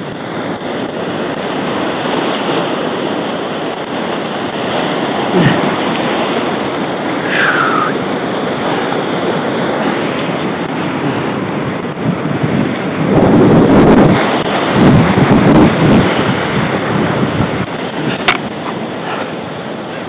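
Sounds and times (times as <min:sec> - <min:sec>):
waves breaking over rocks: 0:00.0 - 0:20.0
wind on microphone: 0:00.0 - 0:20.0.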